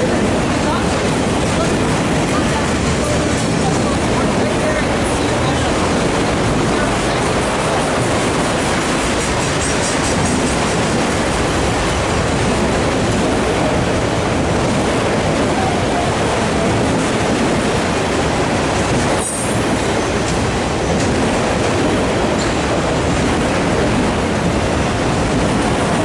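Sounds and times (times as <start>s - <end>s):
steel wheels rumbling on rails: 0.0s - 26.0s.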